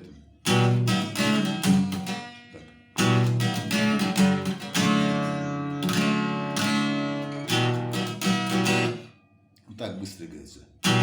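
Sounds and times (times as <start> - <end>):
acoustic guitar strumming chords: 0.0 - 9.3, 10.8 - 11.0.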